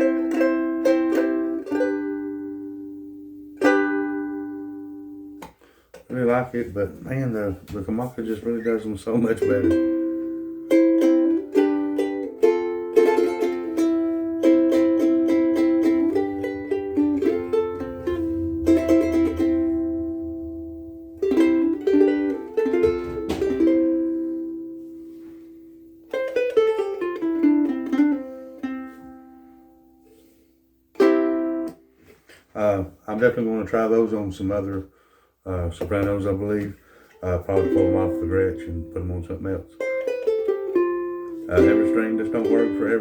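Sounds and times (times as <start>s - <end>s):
ukulele chords and picked notes: 0.0s - 6.7s, 7.4s - 32.4s, 35.7s - 43.0s.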